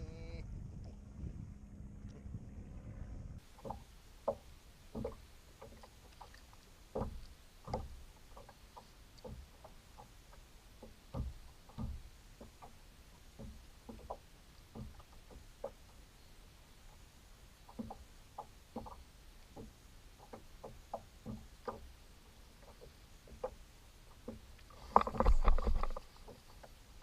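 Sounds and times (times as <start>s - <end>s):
water slapping against kayak hull: 3.4s - 16.0s, 17.6s - 26.8s
faint steady hiss: 3.4s - 27.0s.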